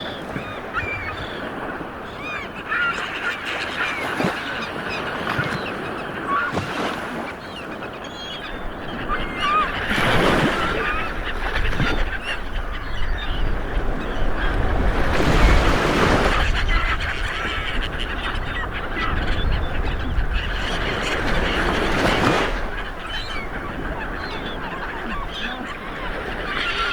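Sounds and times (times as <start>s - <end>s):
surf washing on a beach: 0.0s - 26.9s.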